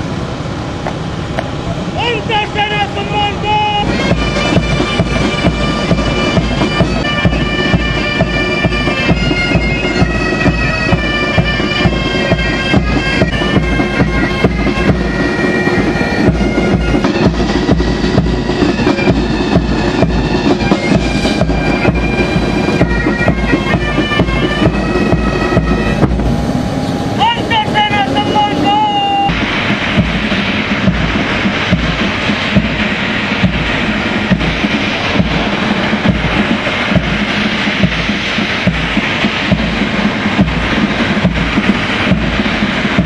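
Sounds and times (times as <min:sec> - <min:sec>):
drums beating time: 0:02.0 - 0:43.0
bagpipes playing a march: 0:02.2 - 0:26.2, 0:27.2 - 0:43.0.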